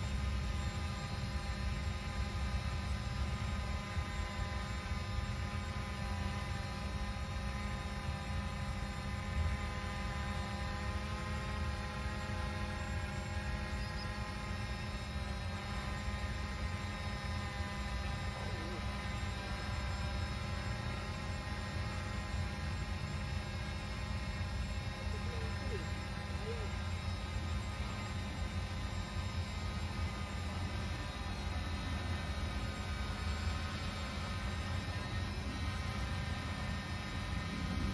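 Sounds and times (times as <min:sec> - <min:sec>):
drone propeller hum: 0:00.0 - 0:37.9.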